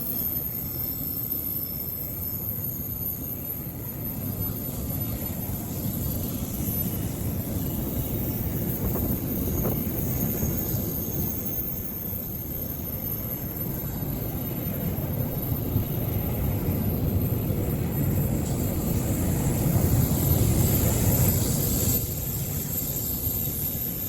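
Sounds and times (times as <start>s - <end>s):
train rumbling: 3.3s - 24.0s.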